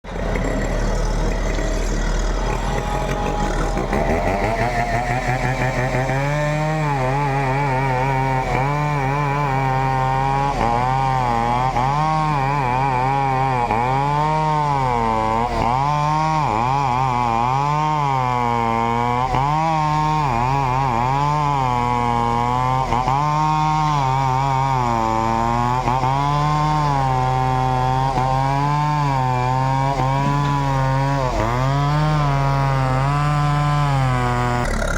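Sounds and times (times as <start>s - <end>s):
chainsaw cutting: 0.0s - 34.9s.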